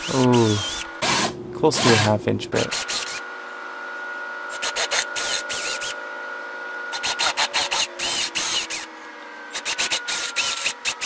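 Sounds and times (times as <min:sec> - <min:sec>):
drill bit cutting wood: 0:00.0 - 0:03.3, 0:04.5 - 0:11.0
drill motor whine: 0:00.0 - 0:11.0.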